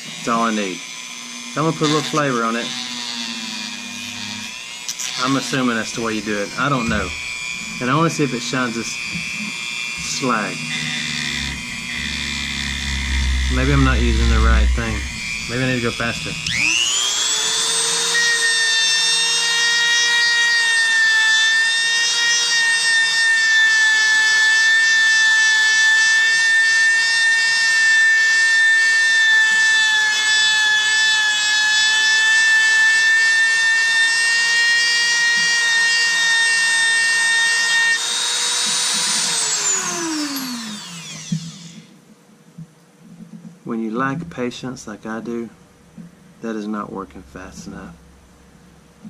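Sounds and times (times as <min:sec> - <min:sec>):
rotary tool high-pitched whine: 0:00.0 - 0:42.0.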